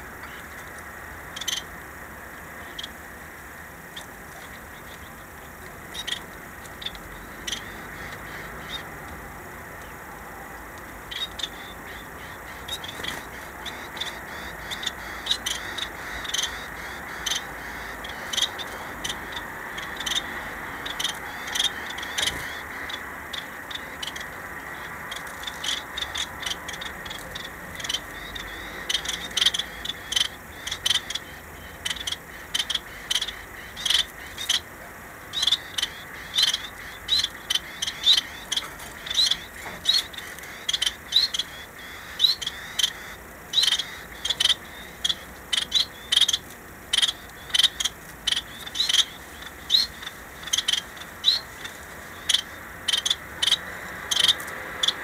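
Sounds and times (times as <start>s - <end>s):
finches chirping: 0.1s - 1.7s, 3.9s - 9.1s, 11.0s - 55.0s.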